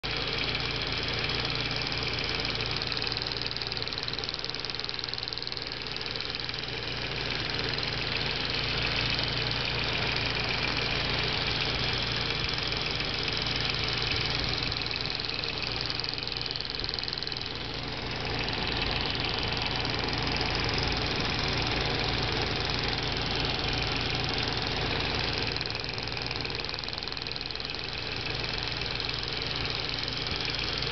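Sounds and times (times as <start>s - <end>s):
car engine idling: 0.0s - 30.9s
fast valve clicking: 2.1s - 30.9s.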